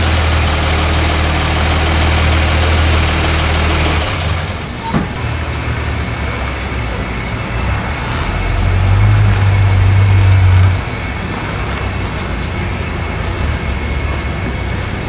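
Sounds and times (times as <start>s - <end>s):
engine idling with low rumble: 0.0s - 15.0s.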